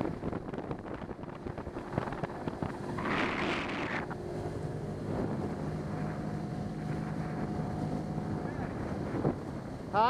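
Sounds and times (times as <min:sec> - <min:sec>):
small boat motor running: 0:00.0 - 0:10.0
wind buffeting microphone: 0:00.0 - 0:10.0.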